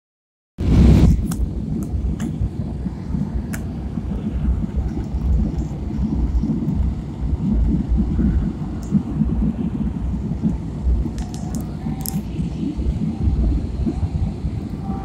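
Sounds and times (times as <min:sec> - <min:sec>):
airliner cabin engine rumble: 0:00.6 - 0:15.0.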